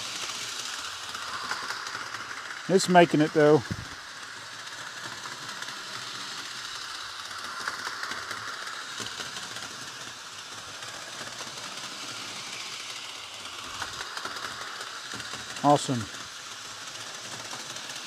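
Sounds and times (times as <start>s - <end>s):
model train motor whirring: 0.0s - 18.0s
wheels clicking over track joints: 0.0s - 18.0s.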